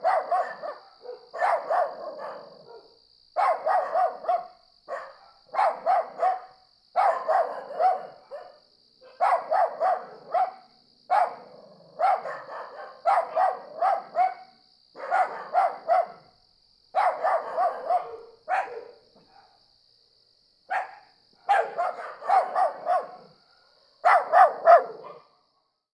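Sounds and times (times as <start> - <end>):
dog barking: 0.0 - 16.4, 17.0 - 19.6, 20.7 - 25.4
crickets trilling: 0.0 - 25.9.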